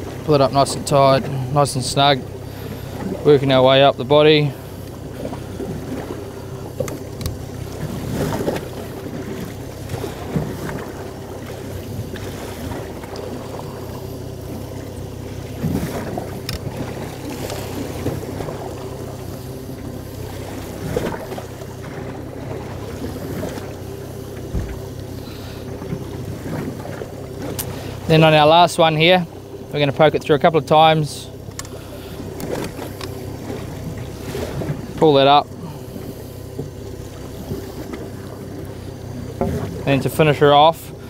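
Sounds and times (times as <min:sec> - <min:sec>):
boat engine humming: 0:00.0 - 0:41.0.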